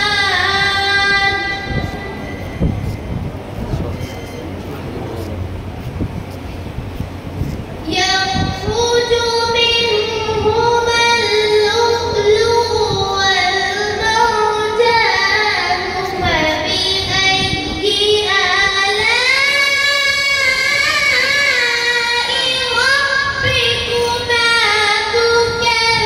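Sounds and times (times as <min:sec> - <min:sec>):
boy chanting melodic recitation: 0:00.0 - 0:03.0, 0:07.8 - 0:26.0.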